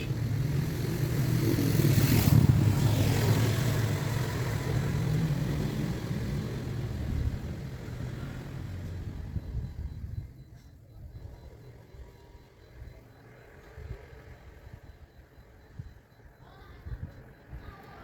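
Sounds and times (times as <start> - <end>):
car engine rumbling: 0.0 - 16.3.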